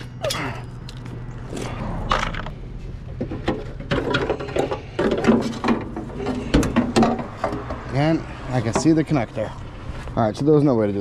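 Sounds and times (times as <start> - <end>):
tools and car parts rattling: 0.0 - 9.8.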